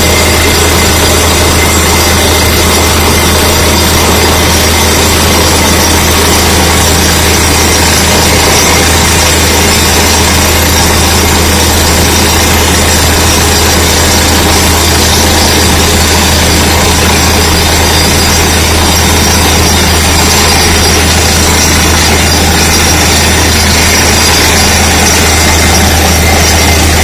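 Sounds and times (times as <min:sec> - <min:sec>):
drilling rig din: 0:00.0 - 0:27.0.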